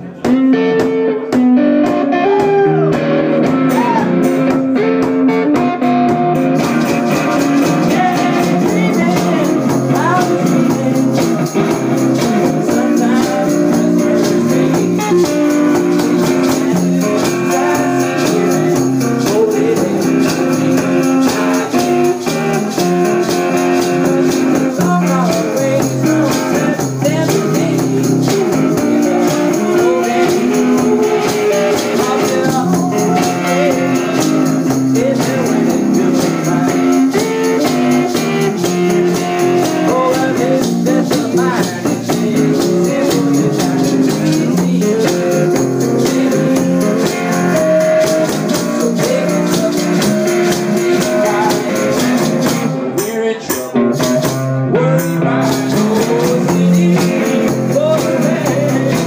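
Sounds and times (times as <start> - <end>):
song with guitar and beat: 0.0 - 59.0
high percussion: 0.1 - 59.0.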